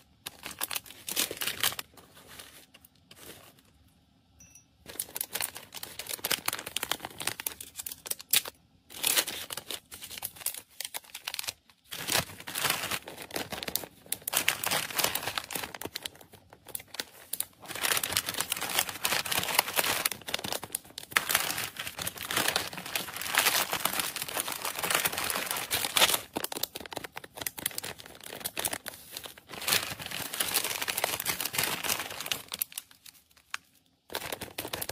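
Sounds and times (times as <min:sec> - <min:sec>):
plastic bags crinkling: 0:00.0 - 0:03.9, 0:04.8 - 0:34.9.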